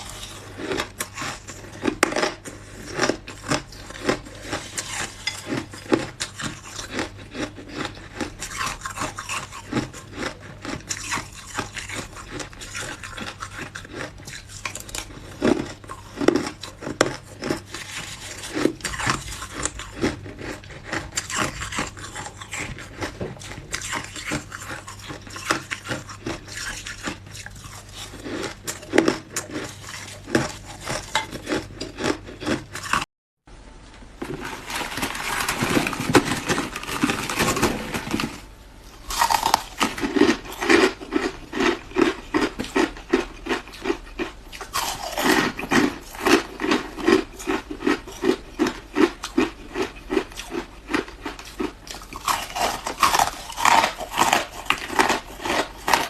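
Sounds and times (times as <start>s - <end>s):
ice being chewed: 0.0s - 33.1s, 39.0s - 56.0s.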